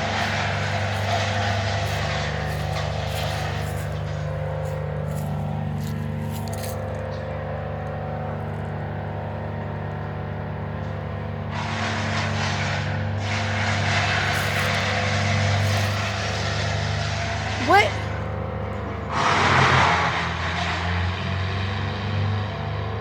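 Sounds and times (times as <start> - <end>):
low mechanical hum: 0.0 - 19.3.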